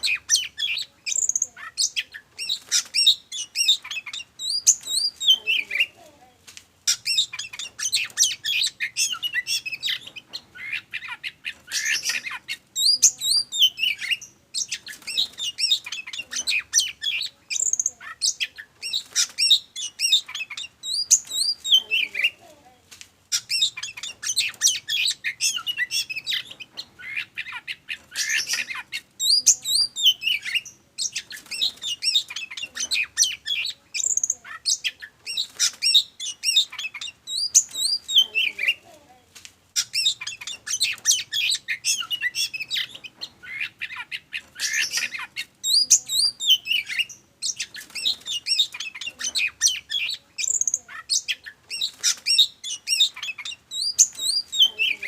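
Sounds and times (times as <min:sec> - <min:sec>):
songbird singing whistles and trills: 0:00.0 - 0:06.0, 0:06.9 - 0:22.4, 0:23.3 - 0:38.8, 0:39.8 - 0:55.0.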